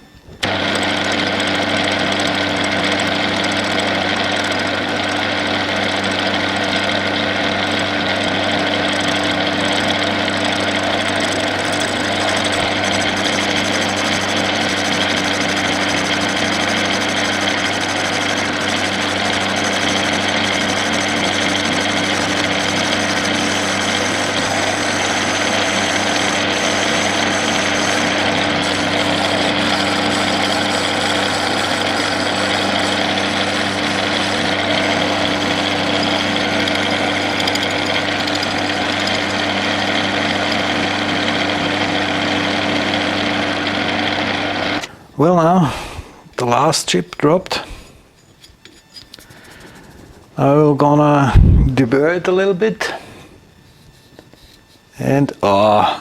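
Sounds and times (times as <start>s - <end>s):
metal lathe humming: 0.0s - 44.9s.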